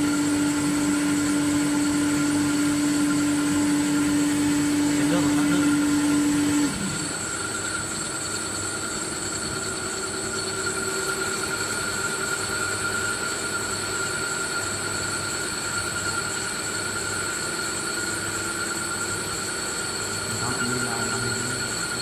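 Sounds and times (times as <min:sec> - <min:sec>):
cnc machine running: 0:00.0 - 0:22.0.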